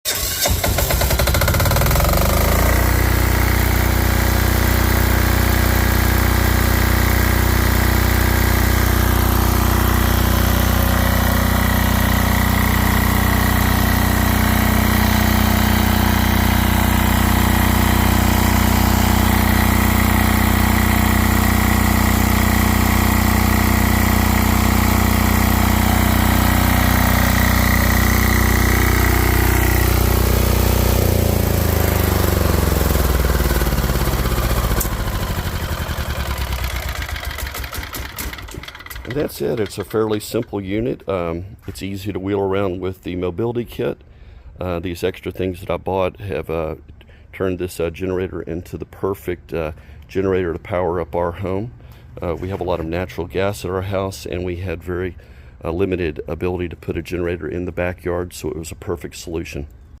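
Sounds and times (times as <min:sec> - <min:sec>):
diesel generator running: 0:00.1 - 0:44.6, 0:49.0 - 1:00.0.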